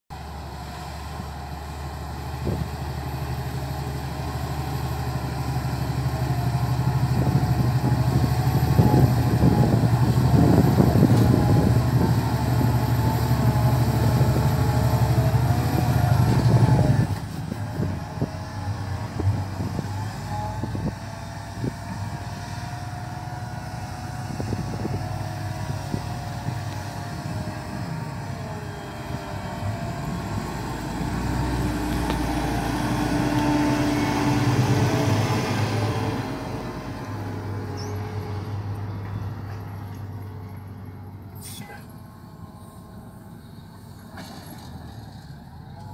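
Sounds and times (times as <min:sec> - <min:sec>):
tractor diesel engine under load: 0:00.1 - 0:45.9.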